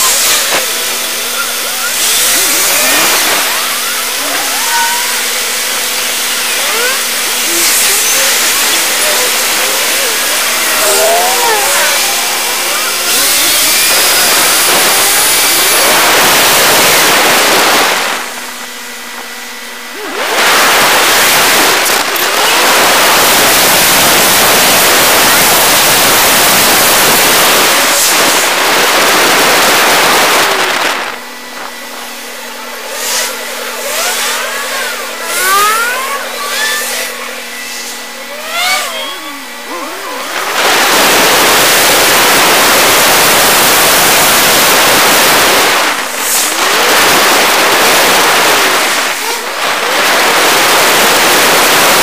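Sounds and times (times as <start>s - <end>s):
car road and wind noise: 0.0s - 52.0s.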